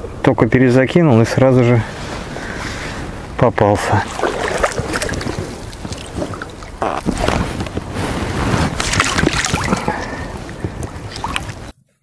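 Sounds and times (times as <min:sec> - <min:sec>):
wind buffeting microphone: 0:01.3 - 0:11.8
water splashing and sloshing: 0:02.0 - 0:11.8.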